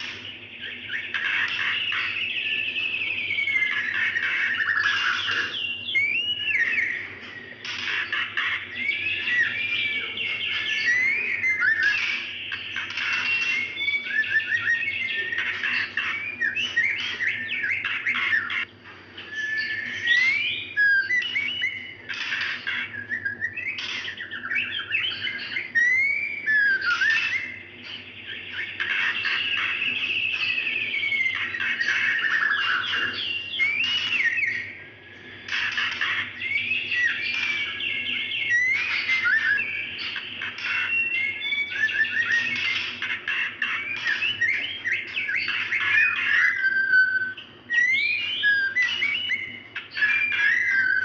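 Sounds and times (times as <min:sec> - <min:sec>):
bird whistled calls and harsh chirps: 0:00.0 - 0:51.0.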